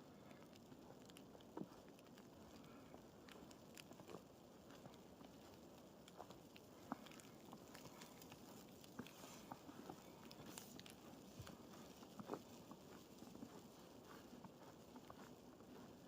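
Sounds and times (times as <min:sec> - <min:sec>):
faint footsteps in snow: 0:00.3 - 0:16.0.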